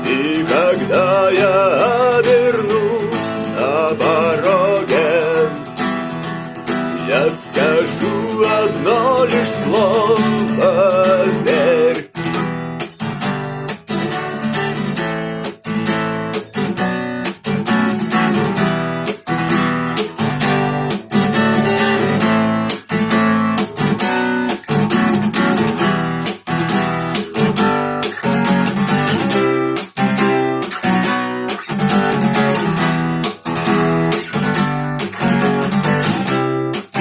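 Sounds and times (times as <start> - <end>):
guitar strumming chords: 0.0 - 37.0.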